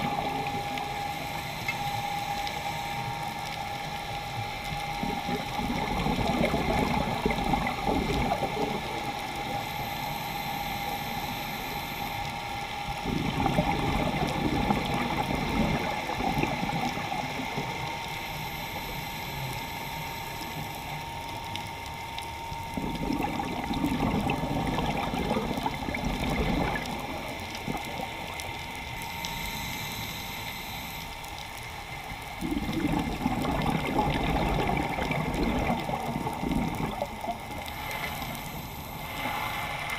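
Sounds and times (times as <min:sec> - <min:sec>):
gurgling exhaust bubbles underwater: 0:00.0 - 0:39.9.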